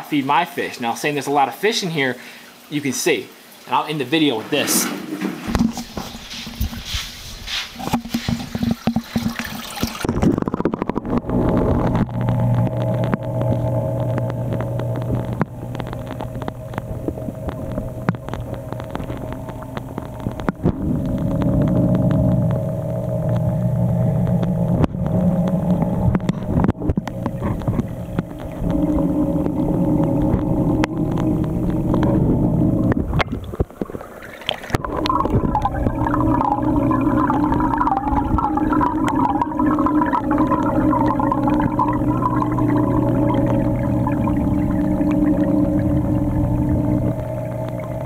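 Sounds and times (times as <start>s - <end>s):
aquarium equipment hum: 0.0s - 48.0s
water gurgling and bubbling: 7.8s - 48.0s.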